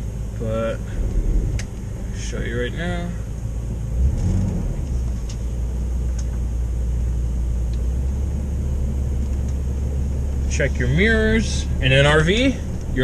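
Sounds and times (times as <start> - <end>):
motorhome engine running: 0.0 - 13.0.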